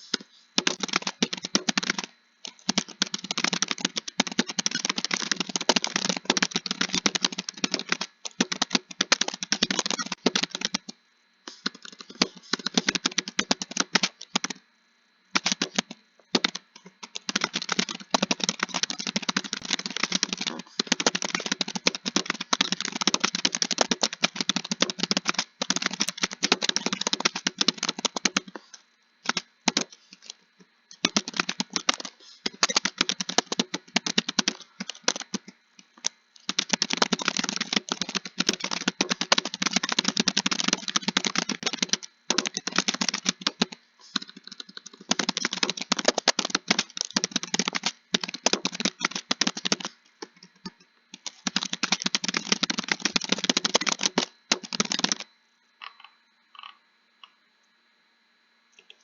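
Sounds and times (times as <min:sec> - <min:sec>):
fast keyboard typing: 0:00.0 - 0:14.6, 0:15.3 - 0:56.0.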